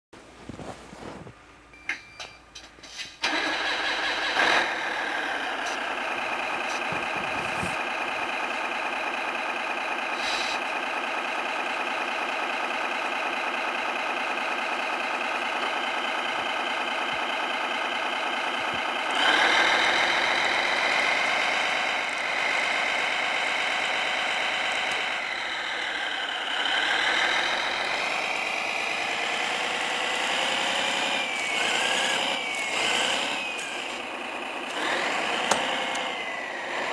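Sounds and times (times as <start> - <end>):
simulated diesel engine: 1.4 - 36.9.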